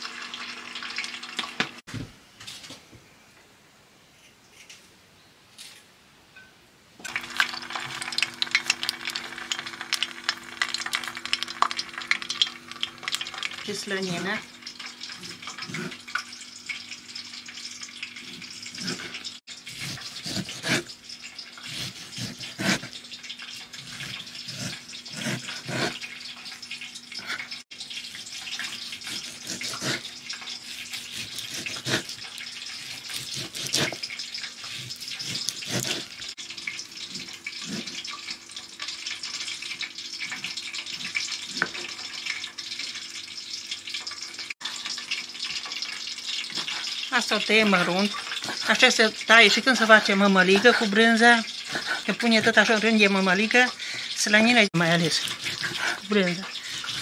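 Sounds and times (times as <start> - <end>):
steady cooking hiss: 0.0 - 1.8, 7.0 - 57.0.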